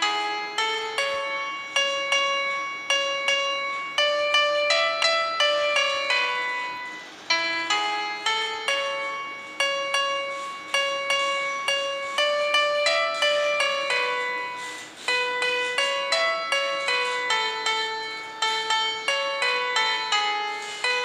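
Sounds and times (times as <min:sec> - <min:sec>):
slow keyboard melody: 0:00.0 - 0:21.0.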